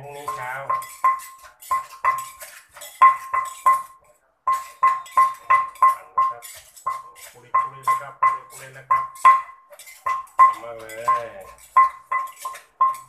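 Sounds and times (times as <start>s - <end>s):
pestle pounding in clay mortar: 0.0s - 13.0s.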